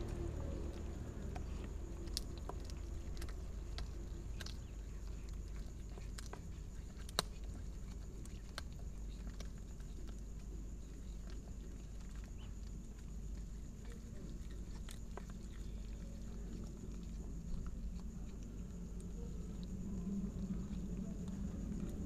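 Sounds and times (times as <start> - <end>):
kittens chewing and licking: 0.0 - 22.0
low steady rumble: 0.0 - 22.0.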